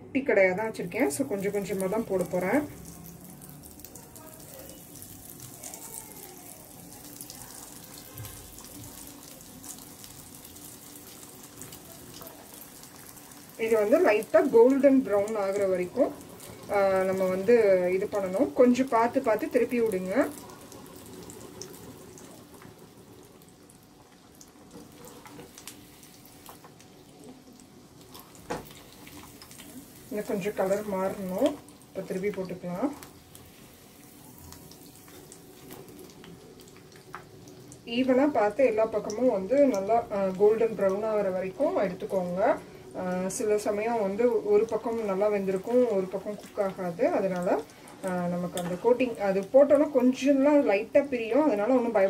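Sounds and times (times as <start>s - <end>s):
food deep-frying in oil: 0.4s - 52.0s.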